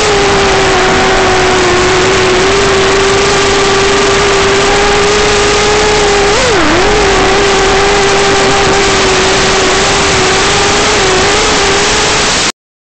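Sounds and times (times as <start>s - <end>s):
electric motor and propeller whining: 0.0s - 12.4s.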